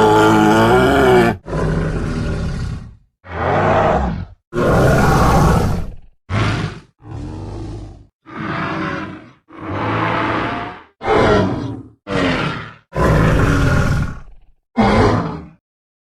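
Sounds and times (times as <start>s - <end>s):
creature roars and grunts: 0.0s - 15.6s.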